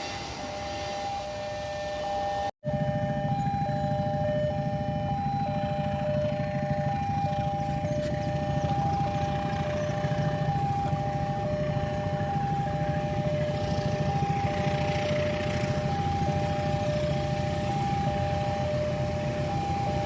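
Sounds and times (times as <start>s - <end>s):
low rumble of engines: 0.0s - 20.0s.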